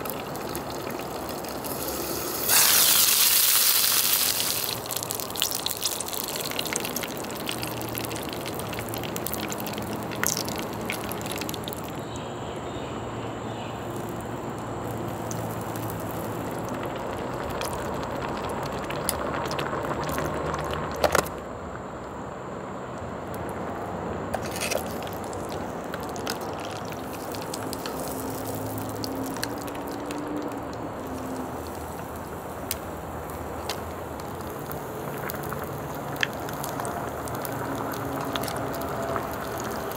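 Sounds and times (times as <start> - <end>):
broth boiling and sizzling: 0.0 - 22.5, 23.3 - 39.9.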